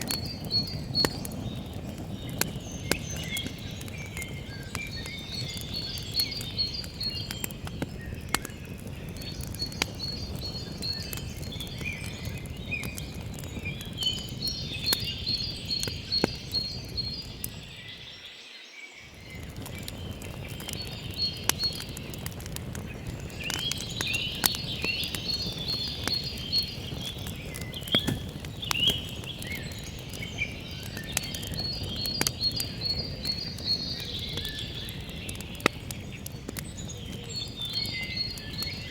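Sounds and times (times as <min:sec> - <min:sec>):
campfire crackling and popping: 0:00.0 - 0:18.2, 0:19.0 - 0:38.9
songbirds chirping: 0:00.0 - 0:38.9.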